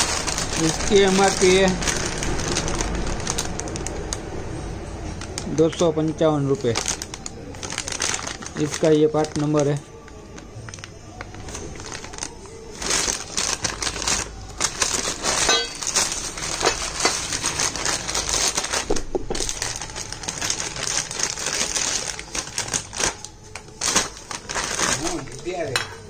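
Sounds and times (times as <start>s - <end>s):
plastic bag crinkling: 0.0s - 25.7s.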